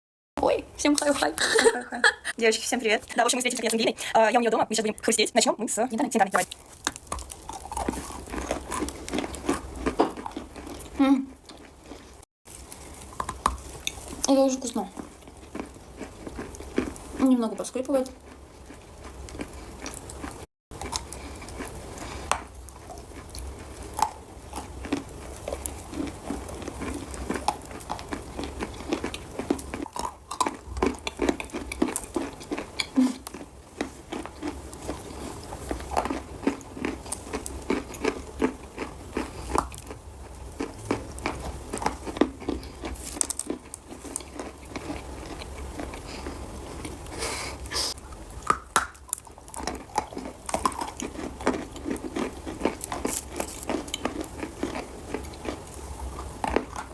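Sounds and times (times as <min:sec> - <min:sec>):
chalk crunching while chewed: 0:06.3 - 0:17.2, 0:18.0 - 0:56.9.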